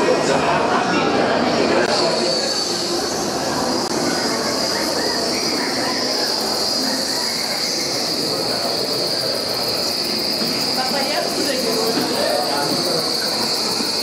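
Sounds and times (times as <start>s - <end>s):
high-pitched whine: 0.0s - 14.0s
indistinct crowd voices: 0.0s - 14.0s.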